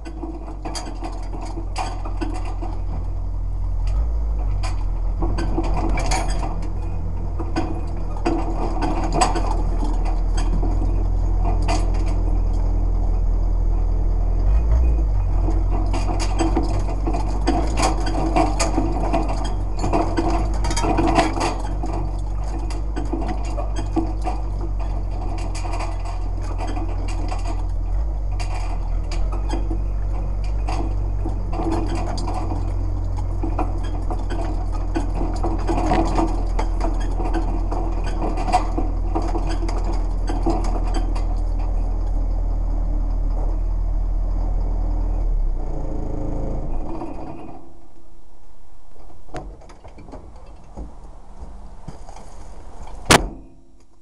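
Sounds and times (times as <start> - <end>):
metal frame rattling: 0.0 - 47.9
vehicle engine running: 0.0 - 54.0.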